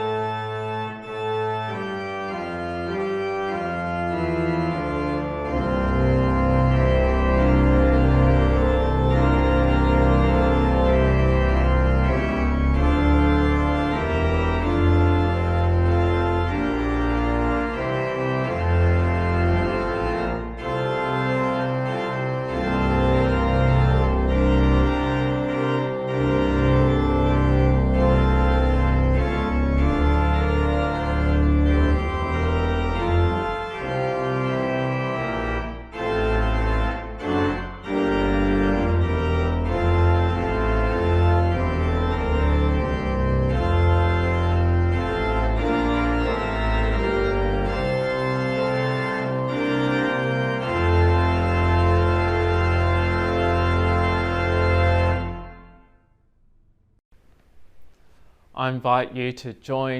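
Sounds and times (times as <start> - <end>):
organ chords: 0.0 - 56.1.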